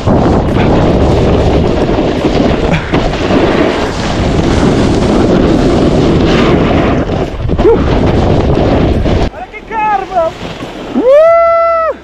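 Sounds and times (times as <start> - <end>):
snowboard carving over snow: 0.0 - 12.0
wind buffeting microphone: 0.0 - 12.0.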